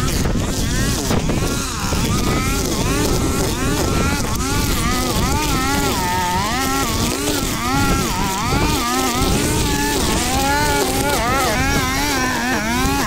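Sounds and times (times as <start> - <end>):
strimmer engine cutting weeds: 0.0 - 13.0.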